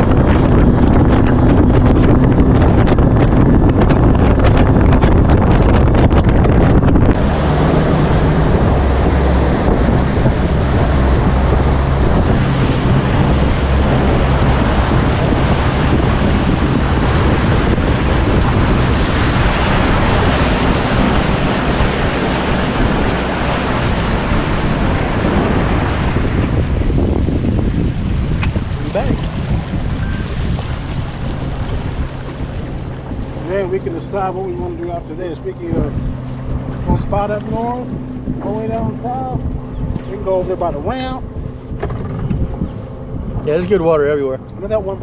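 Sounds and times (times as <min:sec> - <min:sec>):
outboard motor drone: 0:00.0 - 0:45.0
wind rushing over microphone: 0:00.0 - 0:45.0.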